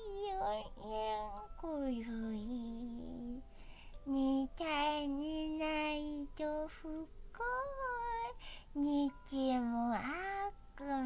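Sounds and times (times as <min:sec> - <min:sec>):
person singing mewing lullaby: 0:00.0 - 0:11.0.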